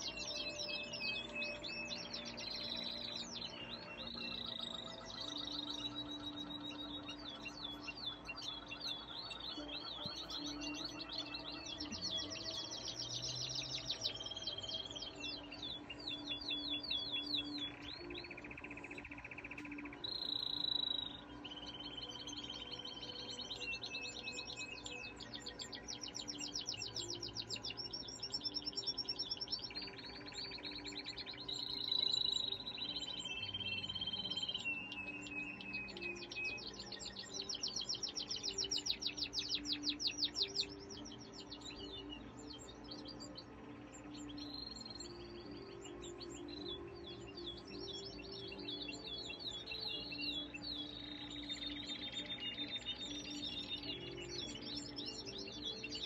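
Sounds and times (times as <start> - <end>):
canary singing trills and chirps: 0.0 - 56.0
quiet music: 0.0 - 56.0.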